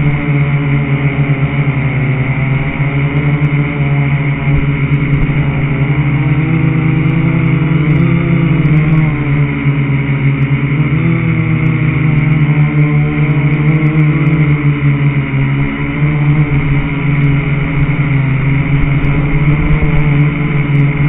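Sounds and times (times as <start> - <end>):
quadcopter propellers buzzing: 0.0 - 21.0.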